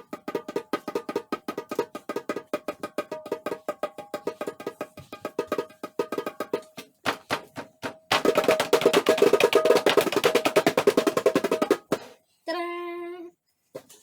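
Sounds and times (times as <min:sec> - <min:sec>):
drum strokes and roll: 0:00.0 - 0:12.1.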